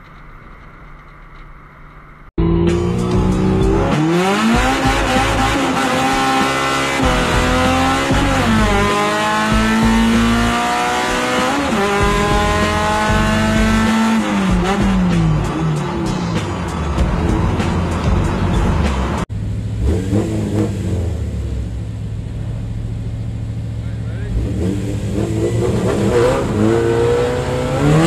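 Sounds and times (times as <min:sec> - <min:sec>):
car engine revving through gears: 0:02.4 - 0:22.1, 0:24.1 - 0:28.0.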